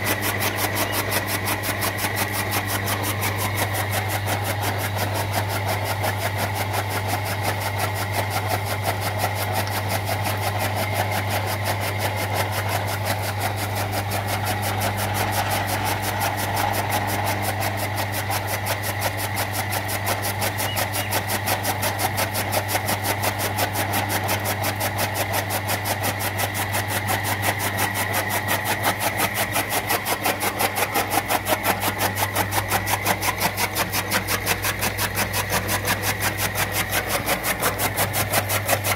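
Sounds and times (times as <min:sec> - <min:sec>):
chaff cutter chopping fodder: 0:00.0 - 0:38.9
electric motor hum: 0:00.0 - 0:38.9.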